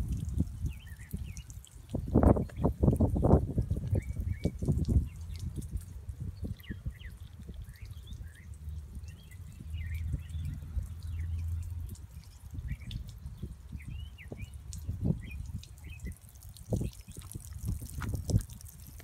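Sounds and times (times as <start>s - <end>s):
water splashing and dripping on stone: 0.0s - 19.0s
small birds chirping: 0.1s - 19.0s.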